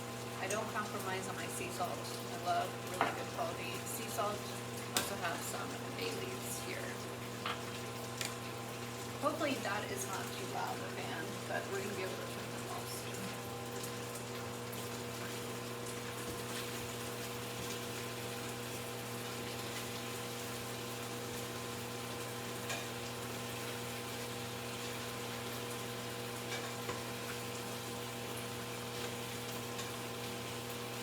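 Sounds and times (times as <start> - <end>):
kitchen fan humming: 0.0 - 31.0.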